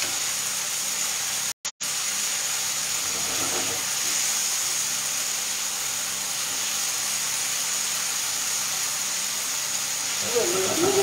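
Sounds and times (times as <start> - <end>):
fish sizzling in a frying pan: 0.0 - 11.0.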